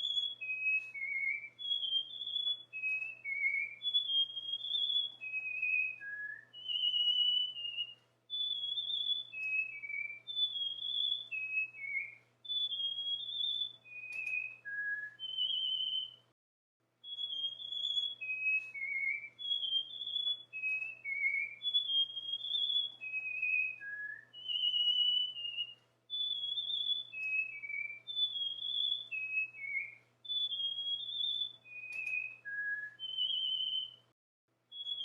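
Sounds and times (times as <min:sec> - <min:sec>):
cockatiel whistling: 0:00.0 - 0:16.3, 0:17.0 - 0:34.1, 0:34.7 - 0:35.0.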